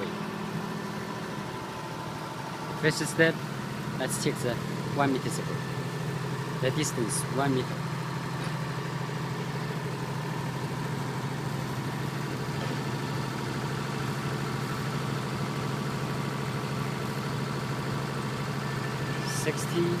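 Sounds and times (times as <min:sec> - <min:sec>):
diesel generator humming: 0:00.0 - 0:20.0.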